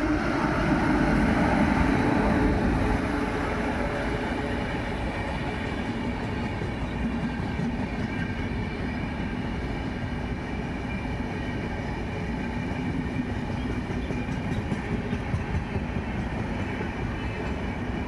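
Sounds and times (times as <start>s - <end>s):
train rumbling and rattling: 0.0s - 18.0s.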